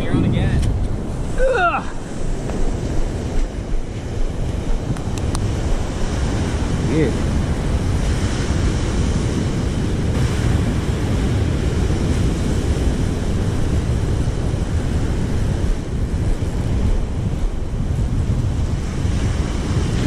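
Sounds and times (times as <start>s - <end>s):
surf breaking on a beach: 0.0s - 20.0s
wind rumbling on microphone: 0.0s - 20.0s.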